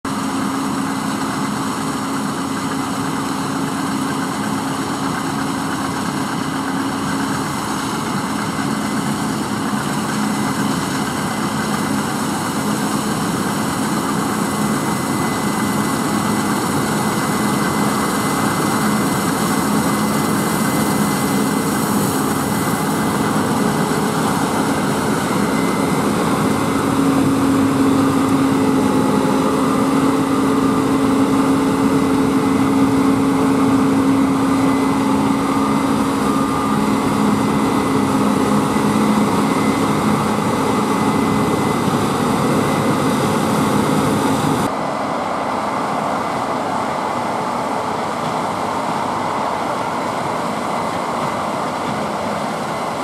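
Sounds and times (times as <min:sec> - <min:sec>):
combine harvester droning: 0:00.0 - 0:53.0
high machine whine: 0:00.1 - 0:53.0.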